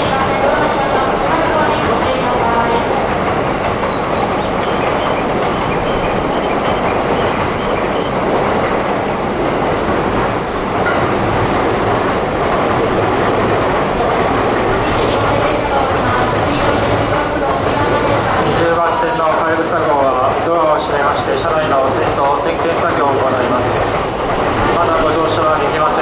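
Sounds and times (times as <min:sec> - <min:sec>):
train moving steadily: 0:00.0 - 0:26.0.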